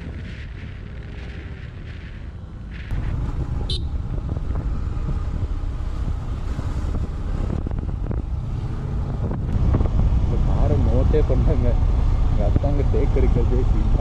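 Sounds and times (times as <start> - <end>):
vehicle noise: 0.0 - 14.0
wind buffeting microphone: 0.0 - 14.0.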